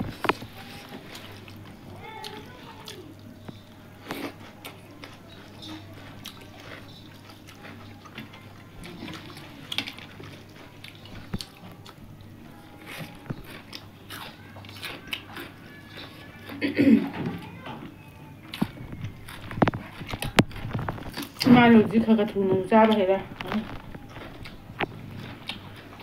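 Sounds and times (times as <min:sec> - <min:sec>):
steady low hum: 0:00.0 - 0:26.0
chewing and lip smacks: 0:00.2 - 0:12.1, 0:12.7 - 0:16.6, 0:18.1 - 0:21.5, 0:22.8 - 0:26.0.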